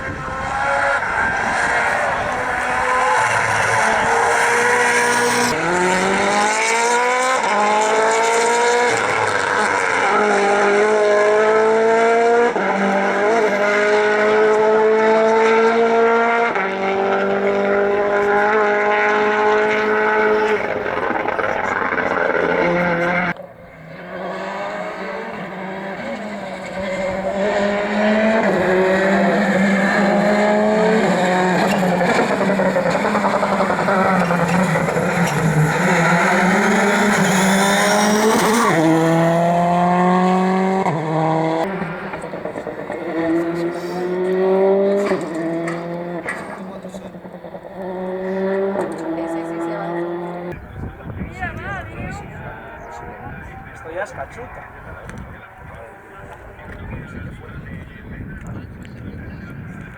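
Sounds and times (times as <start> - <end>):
rally car engine at full throttle: 0.0 - 59.9.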